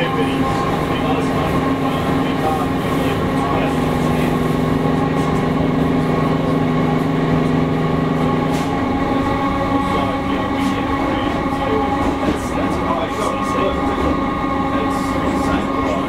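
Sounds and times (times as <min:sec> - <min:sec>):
train motor hum: 0:00.0 - 0:16.0
wheel and rail rumble: 0:00.0 - 0:16.0.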